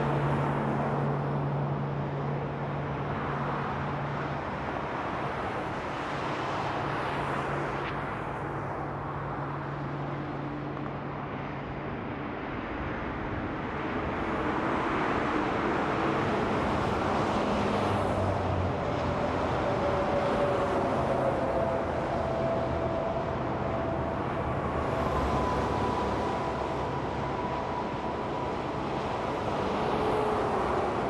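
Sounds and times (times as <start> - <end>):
freeway traffic: 0.0 - 31.0.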